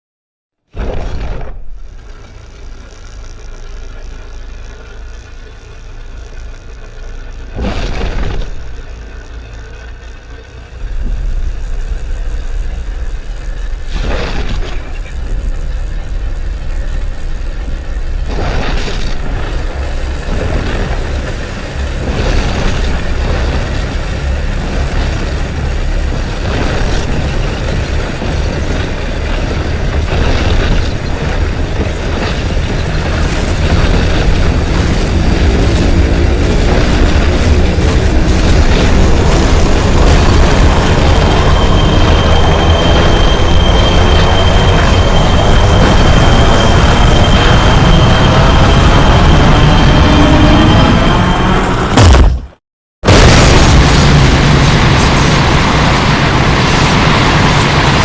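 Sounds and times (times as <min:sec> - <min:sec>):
low monster rumble: 0:00.8 - 0:52.3.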